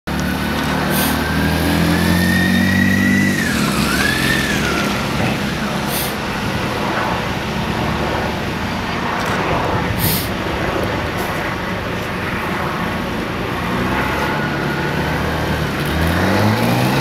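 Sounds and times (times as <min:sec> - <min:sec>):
city traffic noise: 0:00.1 - 0:17.0.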